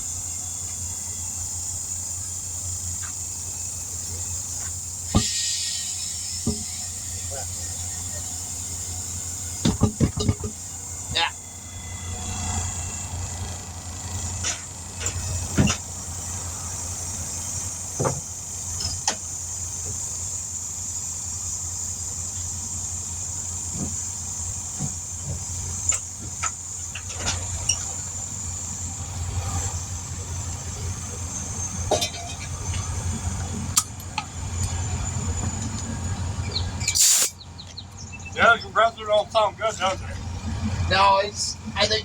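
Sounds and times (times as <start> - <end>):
air compressor running: 0.0 - 42.0.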